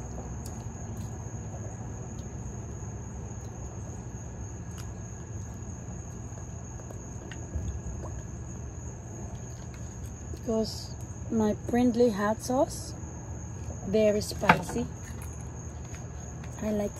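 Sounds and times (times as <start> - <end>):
high-pitched insect chorus: 0.0 - 16.9
low background hum: 0.0 - 16.9.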